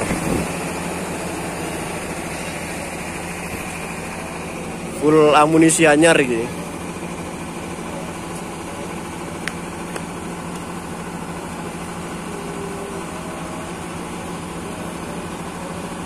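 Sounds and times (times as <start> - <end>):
mechanical drone with hum: 0.0 - 16.0.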